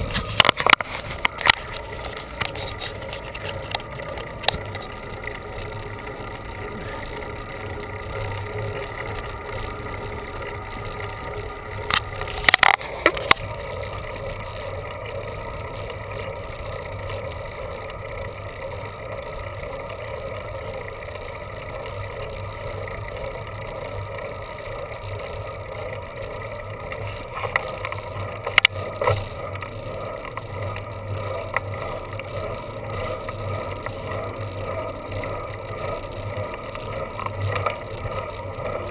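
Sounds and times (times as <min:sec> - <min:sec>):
bicycle tyre hum on road: 0:00.0 - 0:38.9
wind: 0:00.0 - 0:38.9.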